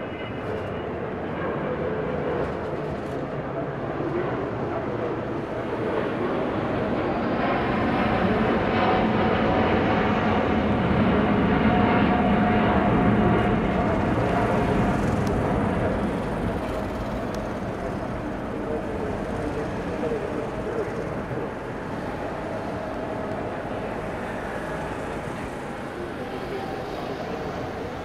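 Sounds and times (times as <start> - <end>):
jet airliner flying past: 0.0 - 28.0.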